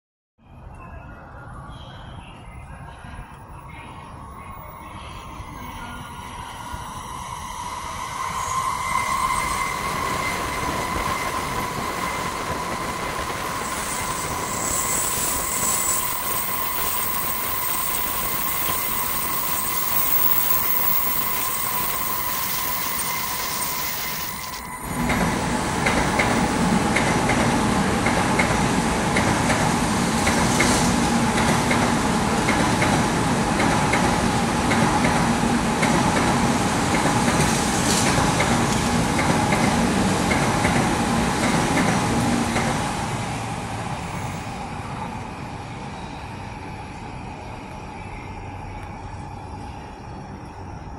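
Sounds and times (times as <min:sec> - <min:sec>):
high-pitched train whine: 0:00.4 - 0:50.9.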